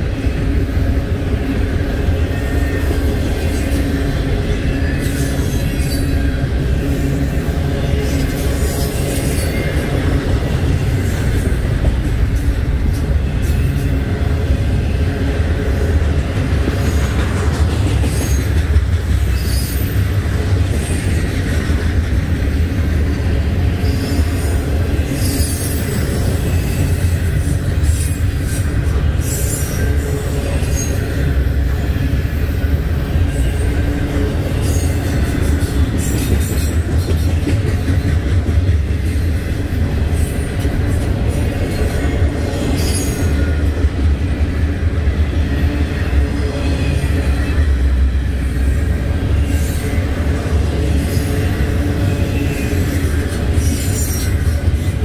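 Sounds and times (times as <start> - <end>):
freight train cars rumbling: 0.0 - 55.0.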